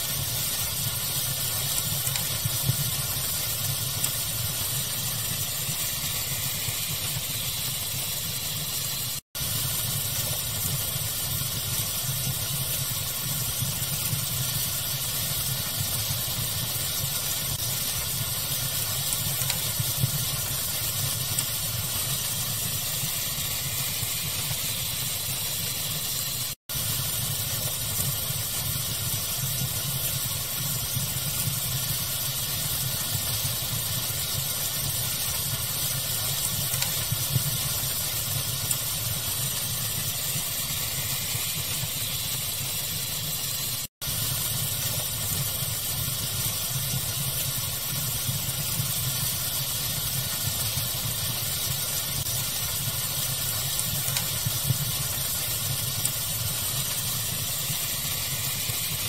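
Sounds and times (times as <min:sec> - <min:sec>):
fire crackling pops: 0:00.1 - 0:59.0.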